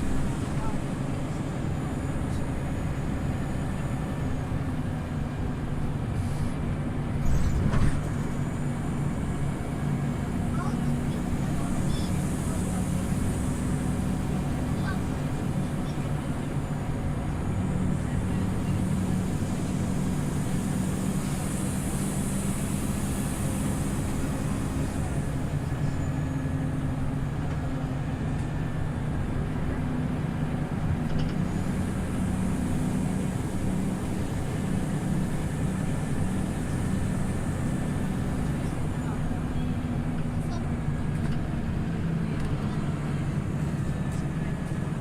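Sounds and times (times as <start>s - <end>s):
bus engine droning: 0.0s - 45.0s
road noise: 0.0s - 45.0s.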